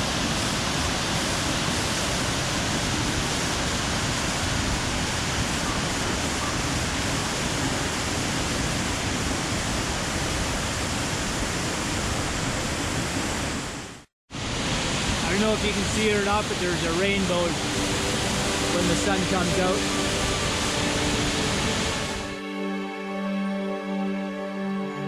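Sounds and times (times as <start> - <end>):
waterfall rushing: 0.0 - 22.4.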